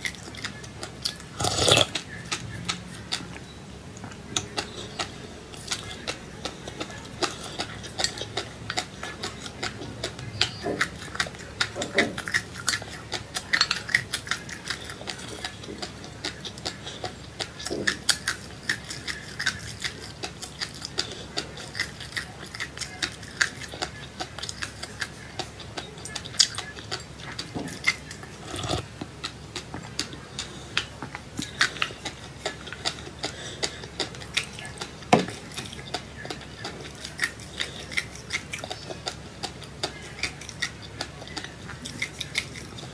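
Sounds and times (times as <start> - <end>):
crunchy chewing of seeds: 0.0 - 42.9.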